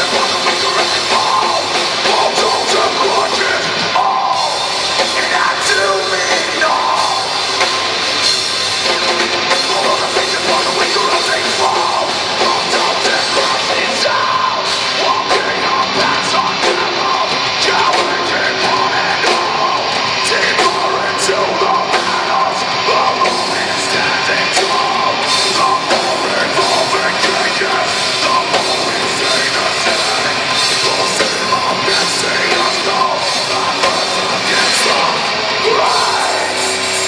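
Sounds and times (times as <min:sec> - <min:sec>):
shouted sung vocals: 0:00.0 - 0:07.6, 0:09.6 - 0:36.9
distorted guitars: 0:00.0 - 0:37.0
drums: 0:00.0 - 0:37.0.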